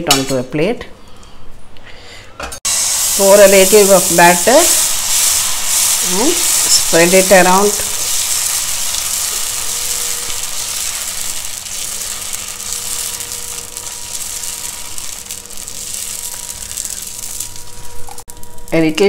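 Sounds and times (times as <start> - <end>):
batter sizzling on hot pan: 2.7 - 18.8.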